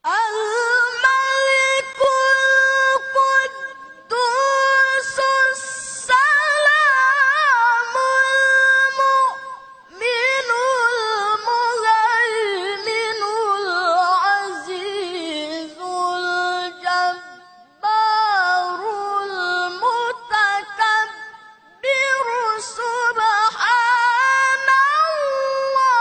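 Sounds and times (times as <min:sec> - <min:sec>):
man reciting melodically over pa: 0:00.0 - 0:26.0.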